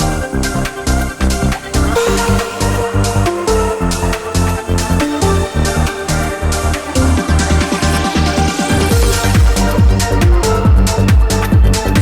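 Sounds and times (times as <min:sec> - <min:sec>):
kick drum: 0:00.0 - 0:12.0.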